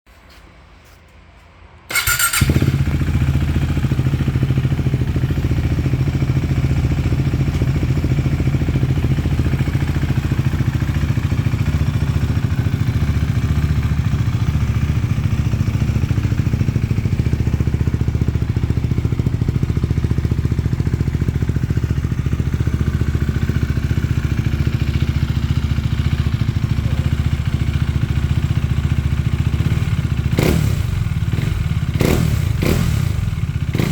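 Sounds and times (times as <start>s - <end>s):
motorcycle engine idling: 1.9s - 33.9s
motorcycle engine starting: 1.9s - 33.9s.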